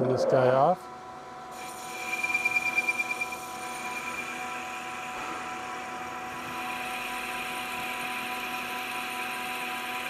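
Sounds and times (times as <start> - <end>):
lathe machine whine: 1.4 - 10.0.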